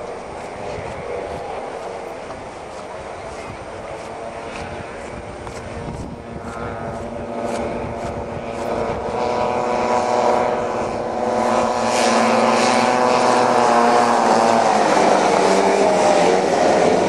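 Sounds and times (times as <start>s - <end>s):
snowmobile engines passing: 0.0s - 17.0s.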